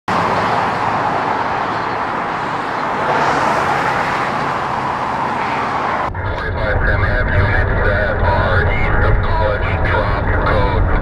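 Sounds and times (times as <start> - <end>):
freeway traffic rushing hum: 0.1 - 11.0.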